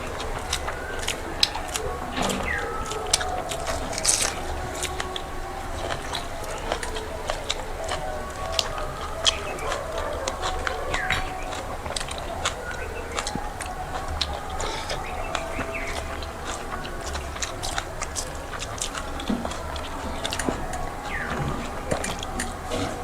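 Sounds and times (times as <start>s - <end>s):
people chewing food: 0.0s - 23.0s.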